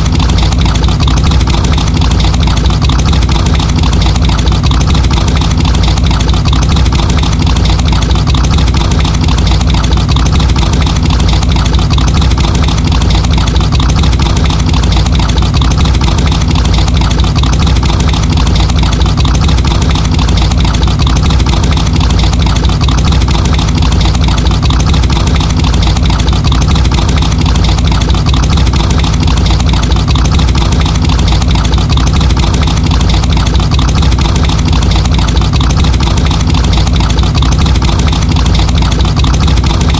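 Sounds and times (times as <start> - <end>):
car engine idling loudly: 0.0 - 39.9.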